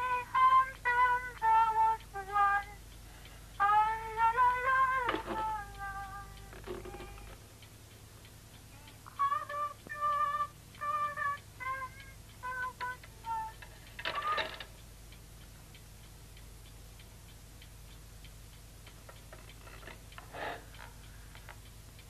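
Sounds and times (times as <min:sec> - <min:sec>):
clock ticking: 0:00.0 - 0:22.0.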